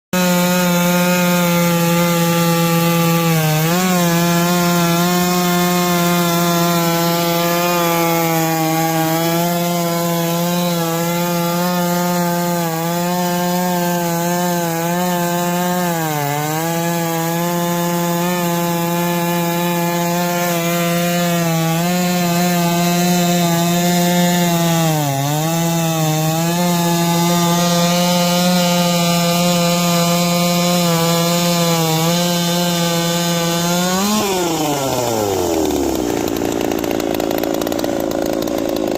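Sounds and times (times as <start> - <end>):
chainsaw cutting a log: 0.1 - 38.9.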